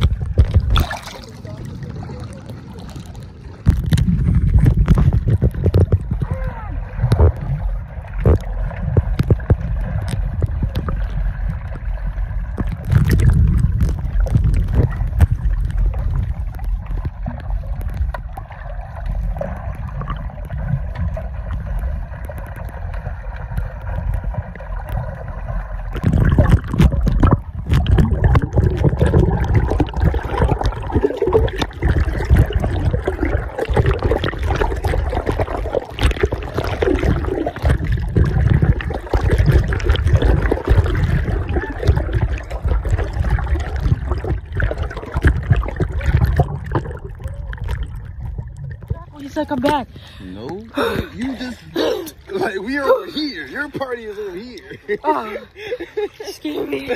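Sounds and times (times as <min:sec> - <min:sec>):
low rumble: 0:00.0 - 0:50.2
muffled water sloshing underwater: 0:00.0 - 0:56.9.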